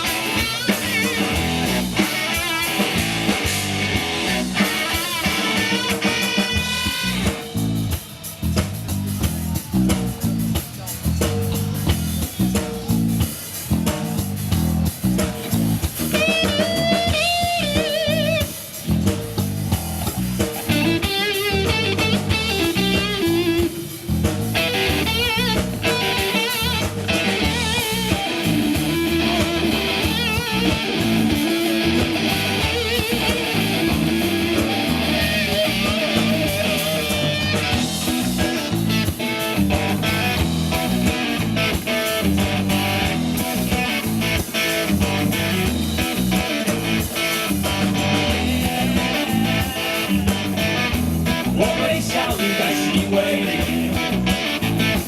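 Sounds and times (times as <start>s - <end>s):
electric guitar lead bending notes: 0.0s - 7.9s, 12.1s - 55.0s
rock band playing: 0.0s - 55.0s.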